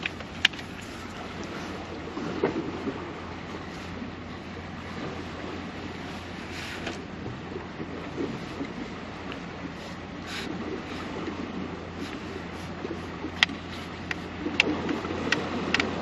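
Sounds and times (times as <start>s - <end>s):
sea waves: 0.0s - 16.0s
wind: 0.0s - 16.0s.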